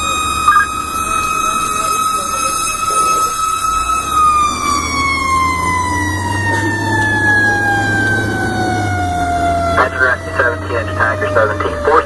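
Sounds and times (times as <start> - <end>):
fire engine siren: 0.0 - 12.0
truck engine drone: 0.0 - 12.0.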